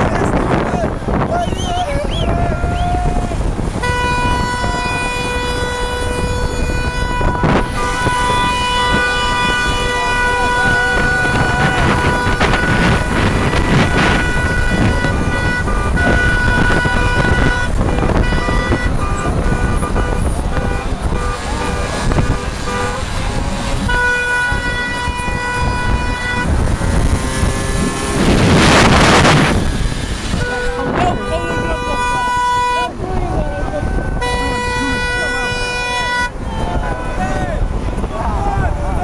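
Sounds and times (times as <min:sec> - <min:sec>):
loud rushing noise: 0:00.0 - 0:33.8
car horns honking: 0:00.0 - 0:39.0
dense street noise: 0:00.0 - 0:39.0.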